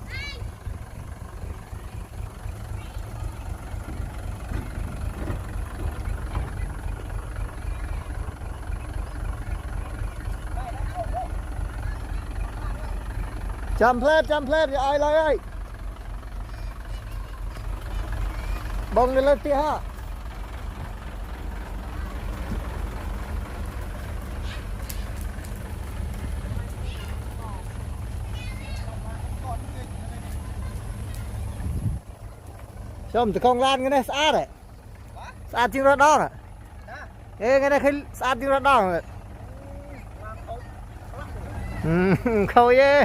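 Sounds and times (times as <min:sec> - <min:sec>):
diesel engine rumbling: 0:00.0 - 0:43.0.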